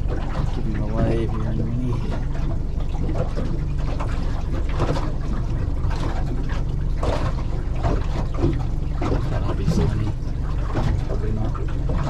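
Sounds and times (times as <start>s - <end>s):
outboard motor running: 0.0s - 12.0s
water splashing against hull: 0.0s - 12.0s.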